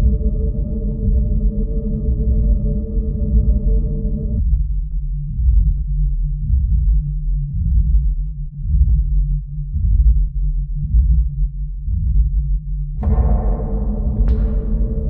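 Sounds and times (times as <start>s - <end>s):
deep wavering bass drone: 0.0s - 15.0s.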